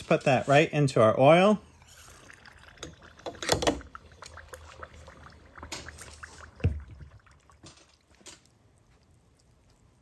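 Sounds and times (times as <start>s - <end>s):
oil sloshing and crackling: 1.8s - 10.0s.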